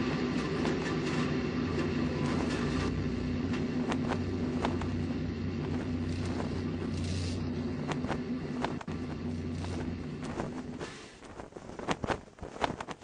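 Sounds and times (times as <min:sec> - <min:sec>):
heavy machine humming: 0:00.0 - 0:10.8.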